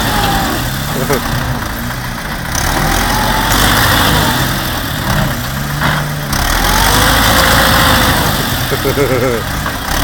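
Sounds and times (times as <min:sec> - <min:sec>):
vehicle engines running loudly: 0:00.0 - 0:10.0.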